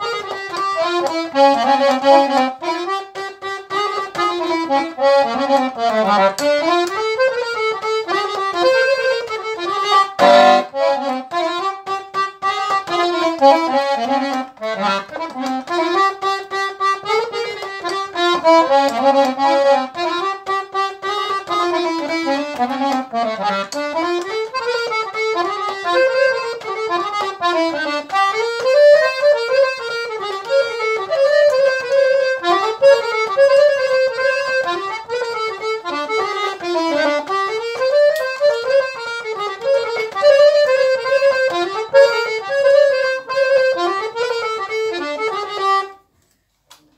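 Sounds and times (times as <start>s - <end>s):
accordion folk melody: 0.0s - 46.9s.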